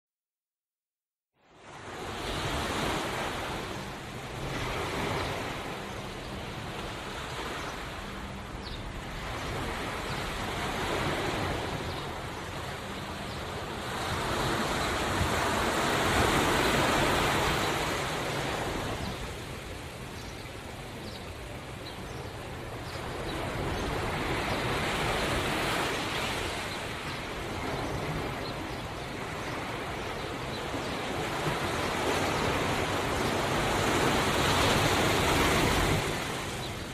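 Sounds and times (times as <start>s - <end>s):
ocean waves breaking on shore: 1.4s - 36.9s.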